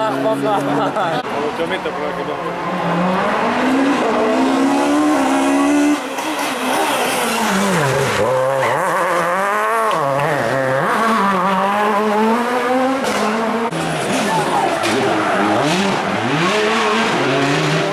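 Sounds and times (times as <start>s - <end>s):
rally car engine revving: 0.0s - 17.9s.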